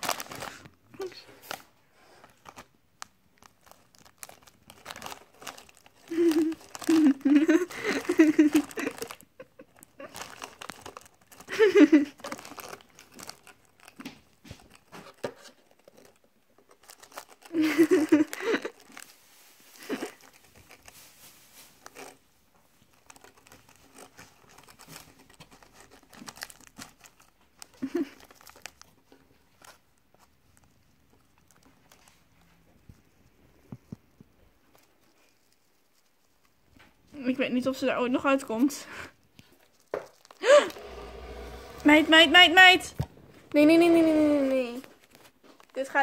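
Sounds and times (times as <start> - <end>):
plastic packet crinkling: 0.0 - 32.2, 37.3 - 46.0
hamsters nibbling cookies: 0.0 - 46.0.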